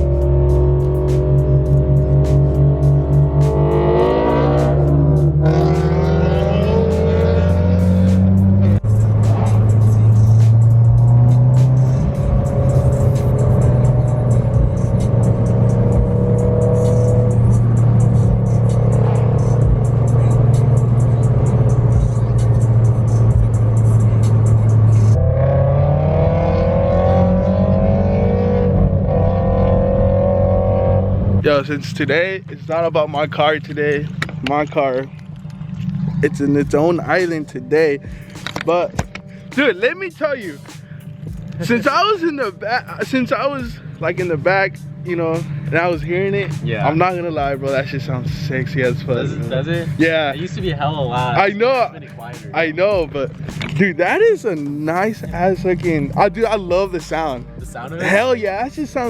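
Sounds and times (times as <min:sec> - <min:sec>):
background music with steady beat: 0:00.0 - 0:32.0, 0:33.6 - 0:59.0
car engine revving: 0:00.0 - 0:59.0.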